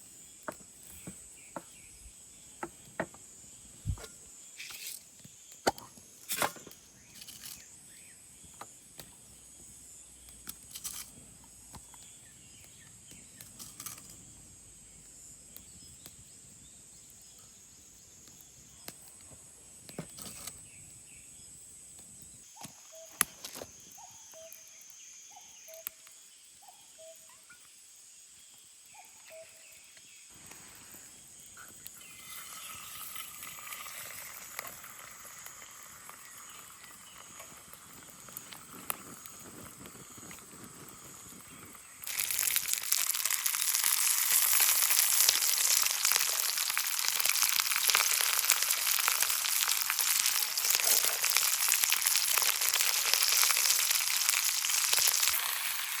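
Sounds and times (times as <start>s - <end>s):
food sizzling on hot surface: 0.0s - 21.6s, 22.4s - 56.0s.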